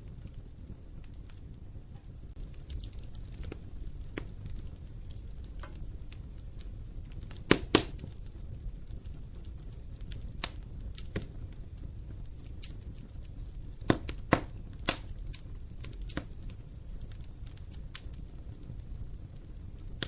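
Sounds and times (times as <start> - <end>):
low rumble of flame: 0.0 - 20.0
wood fire crackling and popping: 0.0 - 20.0.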